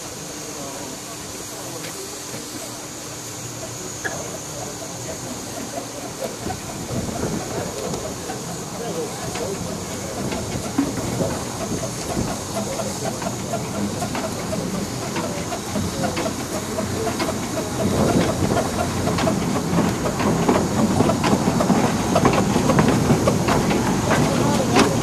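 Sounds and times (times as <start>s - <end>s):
steam hissing: 0.0s - 25.0s
train wheels clicking over rails: 0.5s - 25.0s.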